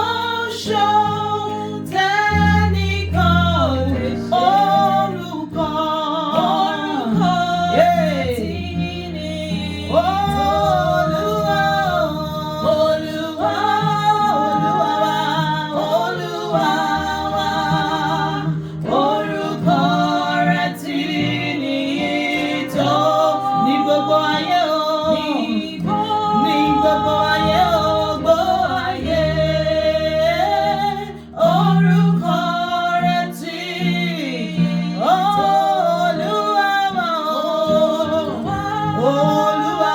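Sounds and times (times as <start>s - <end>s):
solo voice singing: 0.0s - 39.9s.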